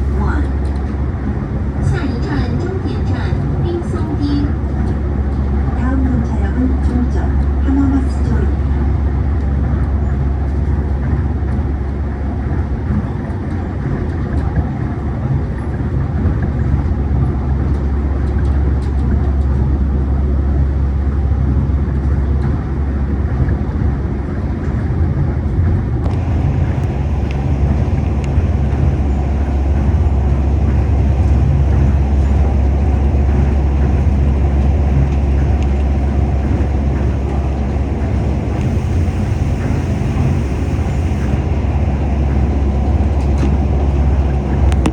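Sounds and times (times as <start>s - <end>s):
monorail train rumble: 0.0s - 44.9s.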